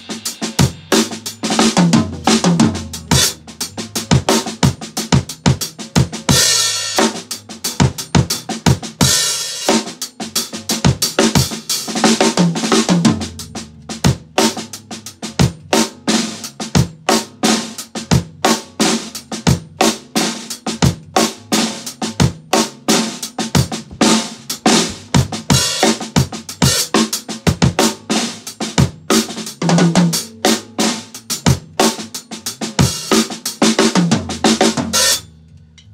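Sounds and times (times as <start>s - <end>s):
drum kit playing: 0.0s - 35.3s.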